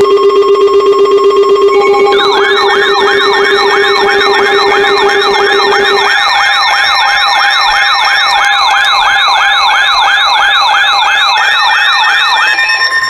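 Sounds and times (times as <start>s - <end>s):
steady alert tones: 0.0s - 12.4s
electronic yelp siren: 0.0s - 13.0s.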